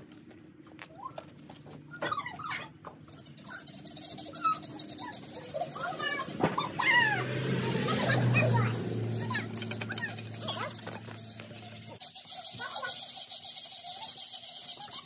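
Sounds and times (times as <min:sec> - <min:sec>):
guinea fowl squawking: 0:01.9 - 0:15.0.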